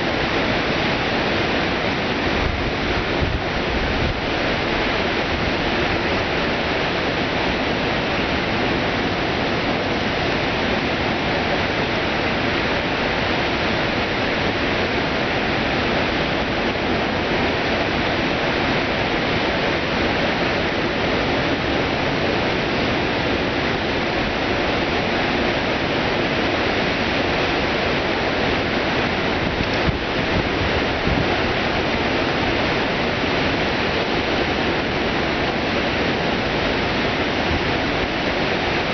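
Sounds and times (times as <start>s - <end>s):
rush of falling water: 0.0s - 38.9s.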